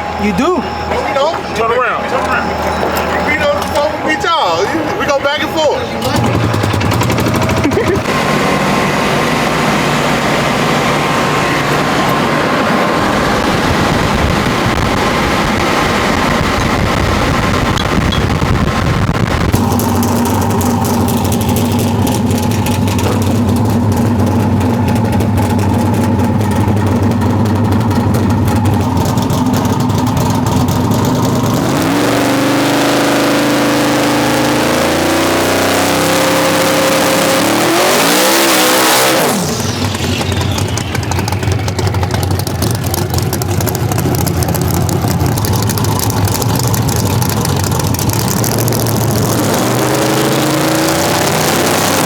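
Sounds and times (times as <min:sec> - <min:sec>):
engine idling and revving: 0:00.0 - 0:52.0.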